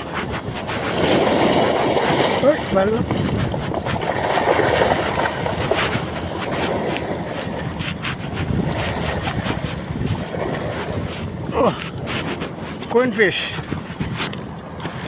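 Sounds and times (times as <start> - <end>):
waves washing on shore: 0.0 - 15.0
wind buffeting microphone: 0.0 - 15.0.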